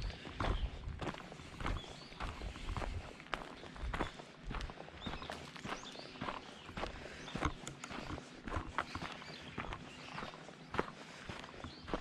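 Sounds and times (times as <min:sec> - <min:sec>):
footsteps walking: 0:00.0 - 0:12.0.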